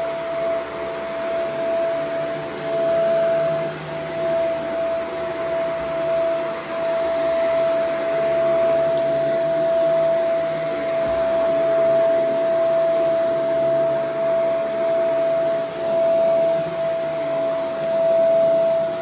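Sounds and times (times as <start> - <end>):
vacuum cleaner on carpet: 0.0 - 19.0.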